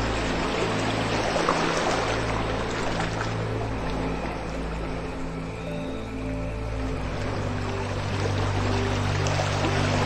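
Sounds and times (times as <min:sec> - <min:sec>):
low ambient drone: 0:00.0 - 0:10.0
running water: 0:00.0 - 0:10.0.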